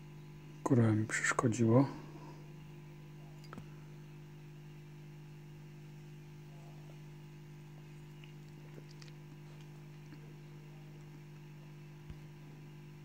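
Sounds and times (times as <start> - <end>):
aquarium filter pump humming: 0.0 - 13.0.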